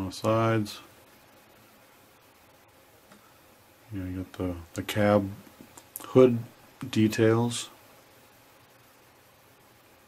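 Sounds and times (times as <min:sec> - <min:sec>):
light steady hiss: 0:00.0 - 0:10.0.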